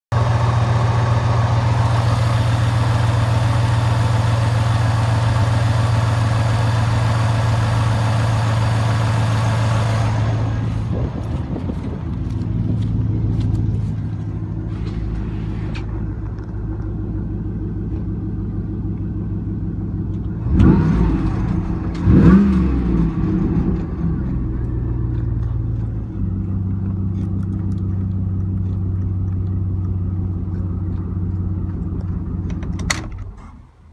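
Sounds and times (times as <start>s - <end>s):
engine revving: 0.1s - 18.1s, 20.1s - 33.6s
car engine idling: 0.1s - 33.9s.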